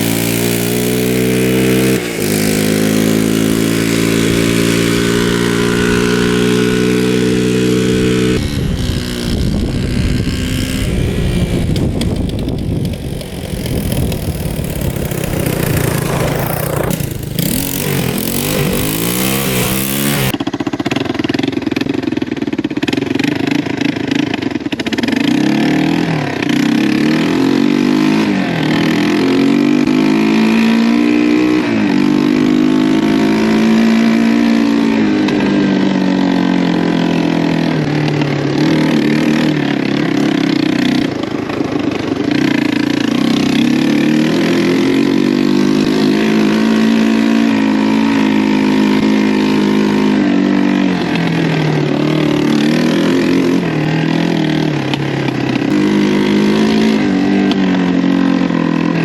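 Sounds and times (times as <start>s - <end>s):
engine revving: 0.0s - 20.5s, 22.8s - 59.0s.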